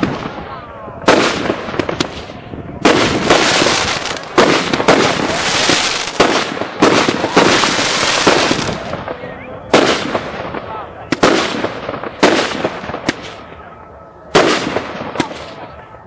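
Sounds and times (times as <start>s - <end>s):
continuous rush of noise: 0.0s - 16.0s
fireworks bursting: 0.0s - 16.0s.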